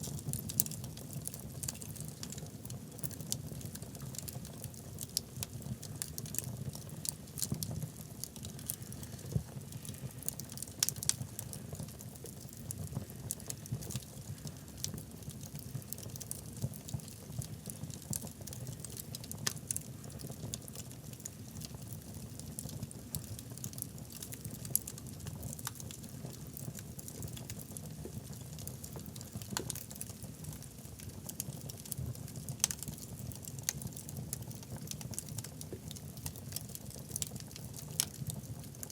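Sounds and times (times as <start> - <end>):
low fire rumble: 0.0 - 38.9
wood fire crackling: 0.0 - 38.9.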